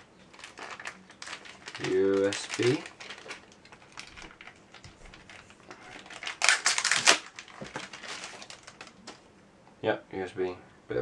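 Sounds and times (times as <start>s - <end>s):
plastic bag crinkling: 0.1s - 9.2s.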